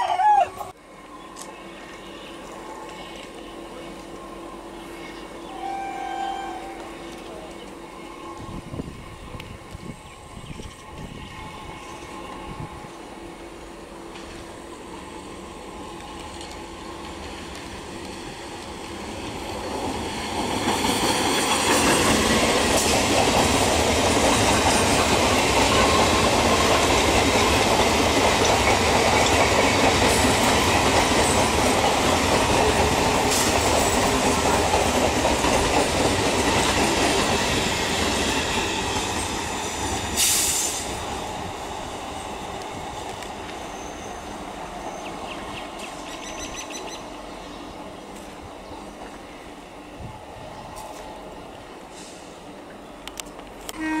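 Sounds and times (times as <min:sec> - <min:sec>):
train passing on rails: 0:00.2 - 0:54.0.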